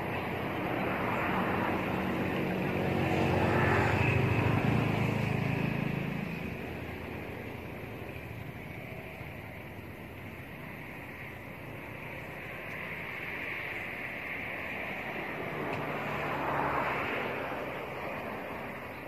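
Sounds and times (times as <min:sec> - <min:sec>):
passing vehicle engine: 0:00.0 - 0:19.0.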